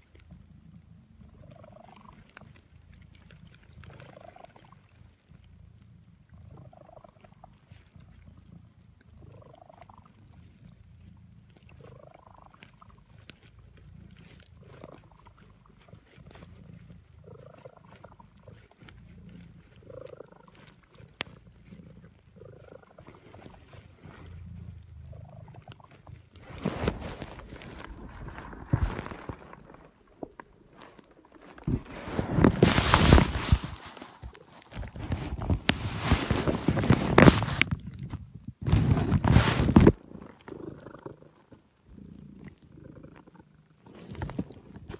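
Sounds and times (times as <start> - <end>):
cat purring: 0.0 - 44.9.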